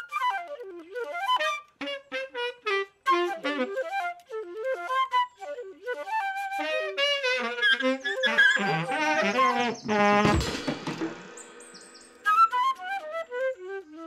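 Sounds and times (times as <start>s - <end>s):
flute playing quick melody: 0.0s - 14.0s.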